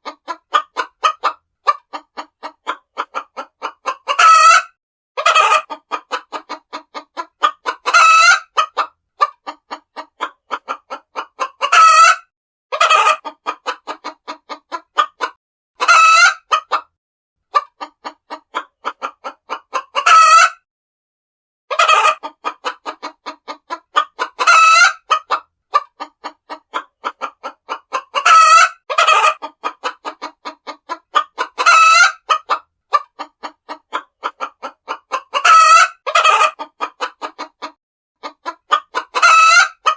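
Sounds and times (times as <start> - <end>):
hens clucking: 0.0 - 16.9, 17.5 - 20.6, 21.7 - 39.9.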